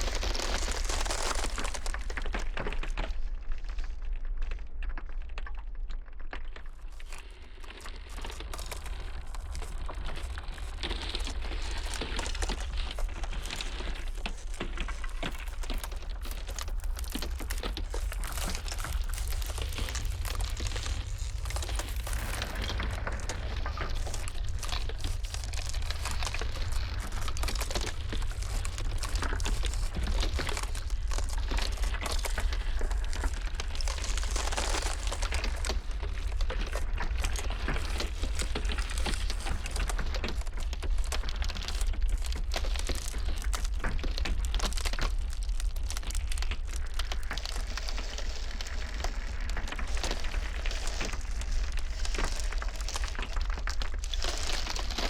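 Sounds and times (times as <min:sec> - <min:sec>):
ice crackling and creaking: 0:00.0 - 0:55.0
blizzard wind rumbling: 0:06.9 - 0:55.0.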